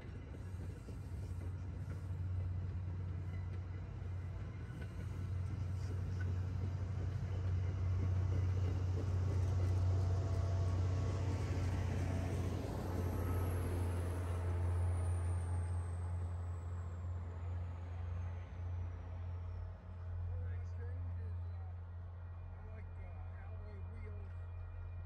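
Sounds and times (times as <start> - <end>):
diesel train rolling past: 0.0 - 25.0.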